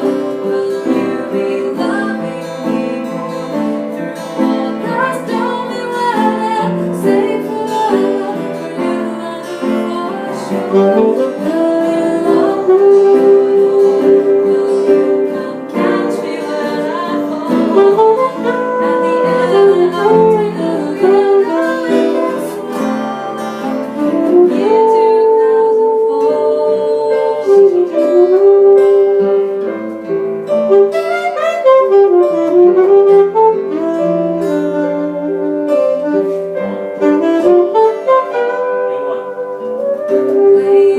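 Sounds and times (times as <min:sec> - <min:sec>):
guitar accompaniment: 0:00.0 - 0:40.9
saxophone melody: 0:00.0 - 0:40.9.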